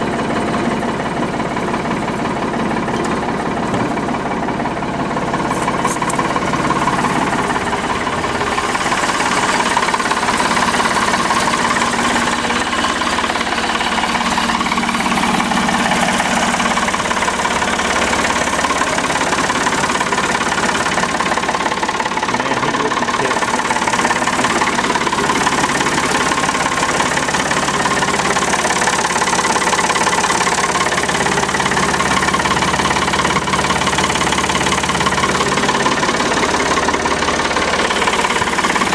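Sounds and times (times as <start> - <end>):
backhoe engine idling: 0.0 - 38.9.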